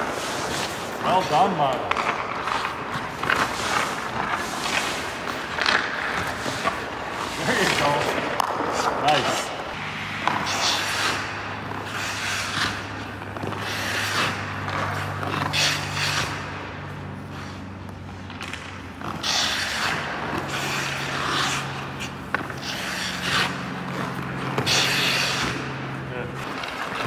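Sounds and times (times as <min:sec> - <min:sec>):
skate blades scraping ice: 0:00.0 - 0:27.0.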